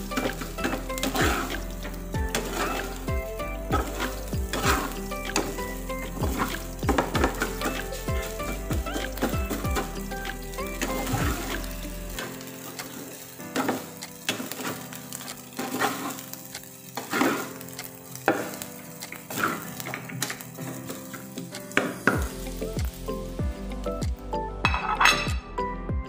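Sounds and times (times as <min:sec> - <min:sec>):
metal spoon scraping a pan: 0:00.0 - 0:03.1, 0:03.7 - 0:22.2
rice sizzling in a frying pan: 0:00.0 - 0:25.2.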